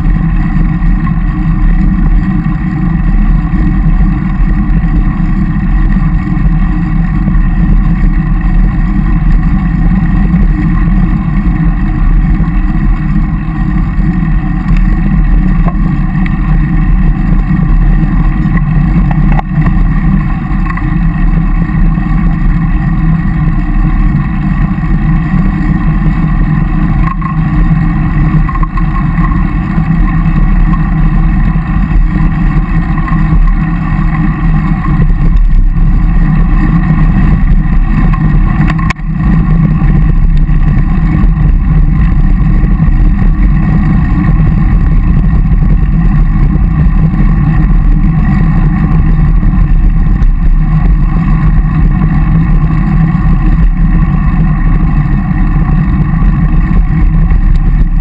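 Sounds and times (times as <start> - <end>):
road noise from bike: 0.0 - 58.0
wind rumble on microphone: 0.0 - 58.0.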